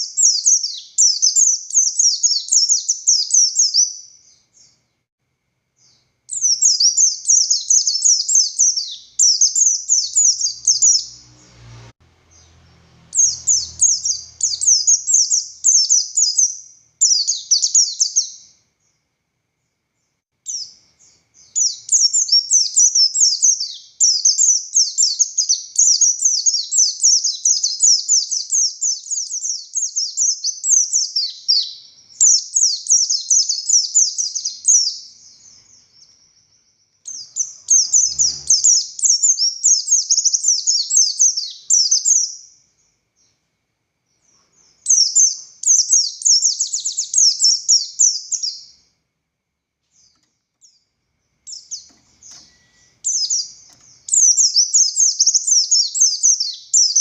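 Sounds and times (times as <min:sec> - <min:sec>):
white-eye twittering song: 0:00.0 - 0:04.9, 0:05.8 - 0:11.6, 0:12.2 - 0:19.0, 0:20.0 - 0:43.4, 0:44.1 - 0:49.0, 0:49.9 - 0:57.0.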